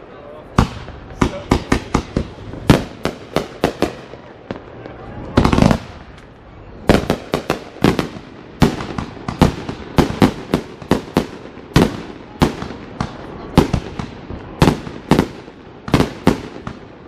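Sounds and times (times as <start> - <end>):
fireworks banging: 0.5 - 17.0.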